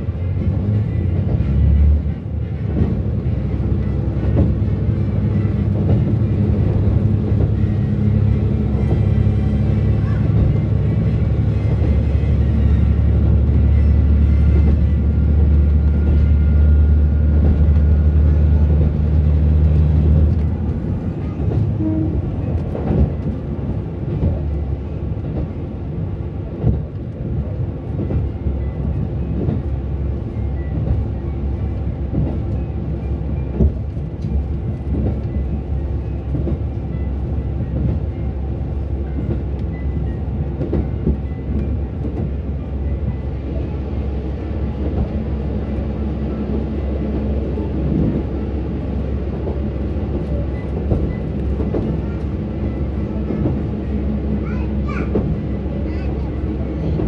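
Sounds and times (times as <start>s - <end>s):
diesel railcar engine droning: 0.0s - 57.0s
train wheels clattering over rails: 0.0s - 57.0s.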